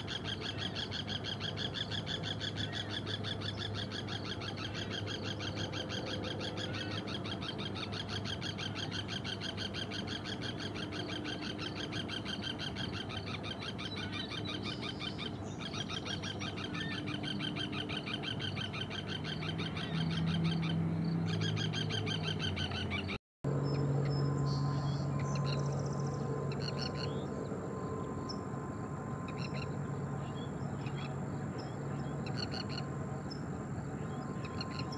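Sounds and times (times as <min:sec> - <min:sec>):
steady low hum: 0:00.0 - 0:34.9
terns calling: 0:00.0 - 0:34.9.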